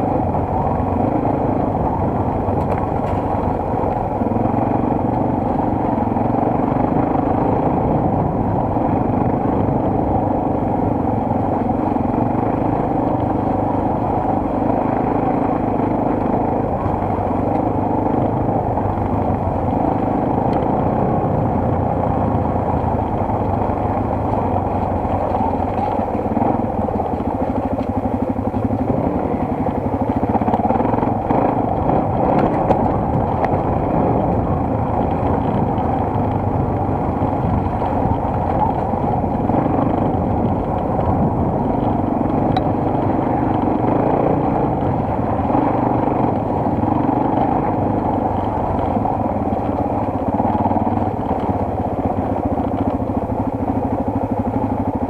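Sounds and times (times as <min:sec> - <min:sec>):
motorcycle engine running: 0:00.0 - 0:55.0
road rumble: 0:00.0 - 0:55.0
wind: 0:00.0 - 0:55.0.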